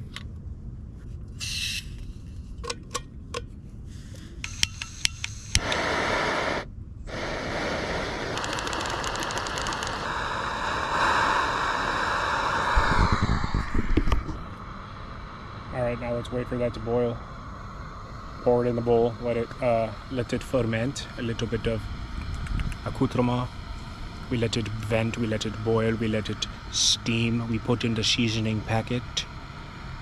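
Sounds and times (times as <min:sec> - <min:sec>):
gas burner hissing: 0:03.9 - 0:30.0.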